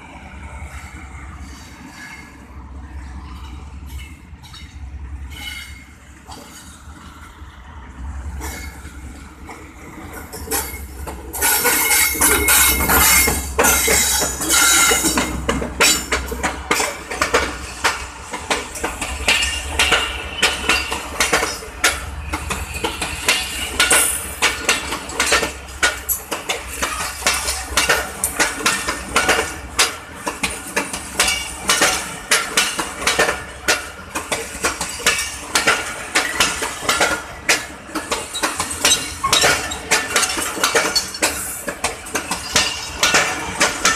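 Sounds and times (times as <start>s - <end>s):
diesel locomotive rushing past: 0.0s - 43.9s
train wheels clattering over joints: 8.4s - 43.9s.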